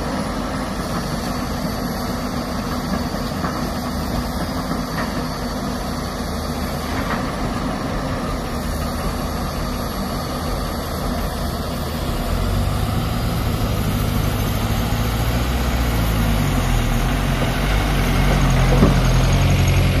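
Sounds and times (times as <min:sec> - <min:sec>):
diesel truck engine driving: 0:00.0 - 0:20.0.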